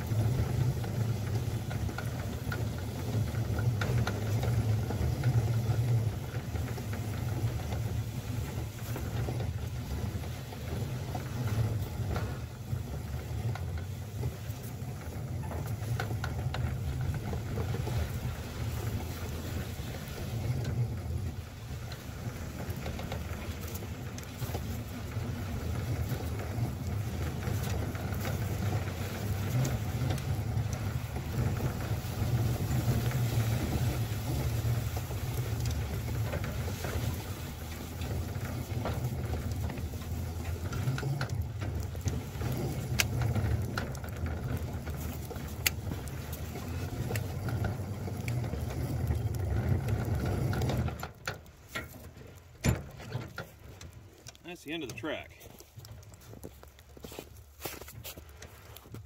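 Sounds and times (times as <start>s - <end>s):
miniature locomotive running: 0.0s - 59.0s
plow pushing through snow: 0.0s - 59.0s.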